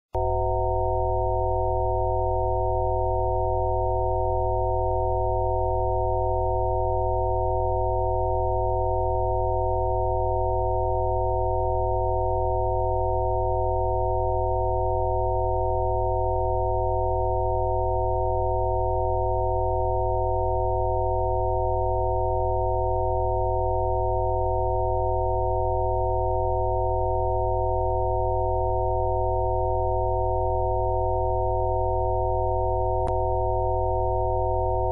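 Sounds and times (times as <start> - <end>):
steady sine tones: 0.2 - 34.9.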